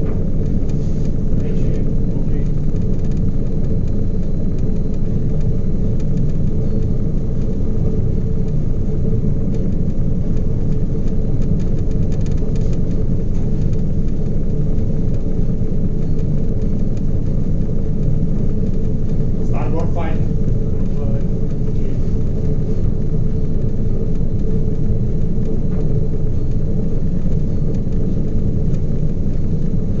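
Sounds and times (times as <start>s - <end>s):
ship engines droning: 0.0s - 16.4s, 17.3s - 30.0s.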